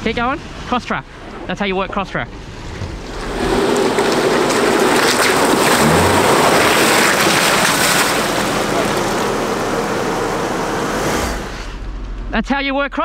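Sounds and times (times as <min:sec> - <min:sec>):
tyres churning wet mud: 0:00.0 - 0:11.8
vehicle engine running: 0:00.0 - 0:12.4.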